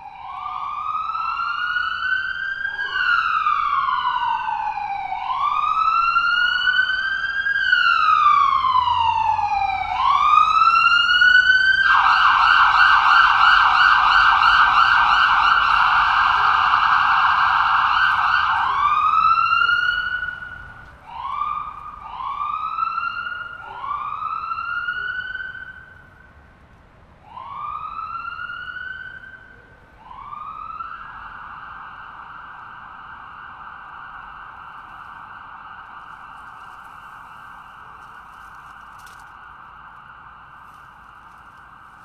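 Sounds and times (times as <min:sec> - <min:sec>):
emergency vehicle siren wailing: 0:00.0 - 0:42.0.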